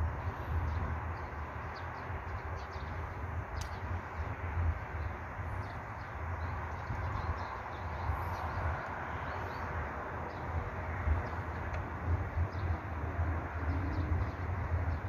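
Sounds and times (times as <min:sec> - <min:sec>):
low outdoor rumble: 0:00.0 - 0:15.0
small birds chirping: 0:00.2 - 0:13.0.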